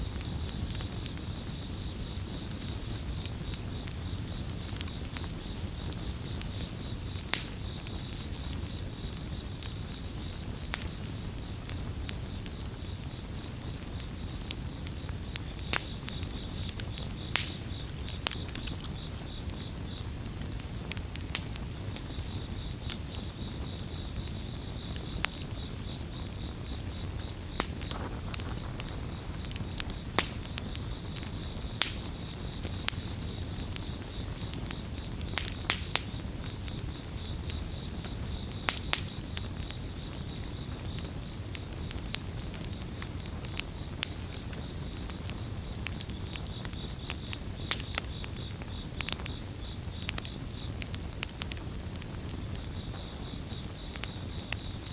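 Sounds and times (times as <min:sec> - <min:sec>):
campfire crackling and popping: 0:00.0 - 0:54.9
cricket chirping: 0:00.0 - 0:54.9.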